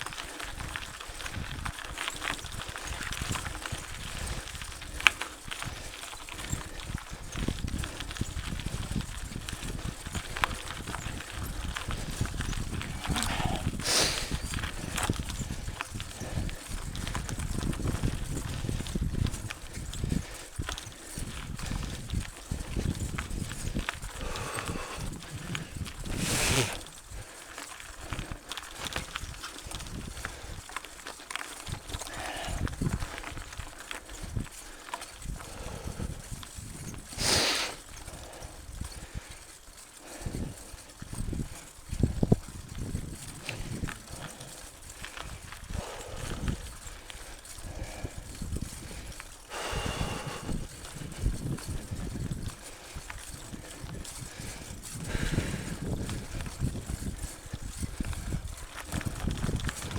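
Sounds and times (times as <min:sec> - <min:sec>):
bike rattling over rocky trail: 0:00.0 - 0:59.9
gravelly hiss: 0:00.0 - 0:59.9.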